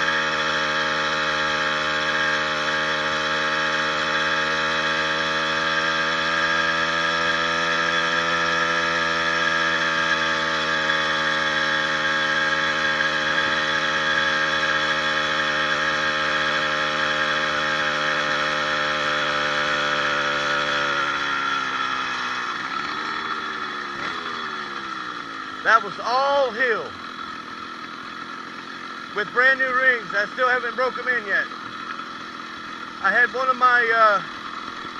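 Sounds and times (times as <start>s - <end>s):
two-stroke engine revving high: 0.0s - 34.9s.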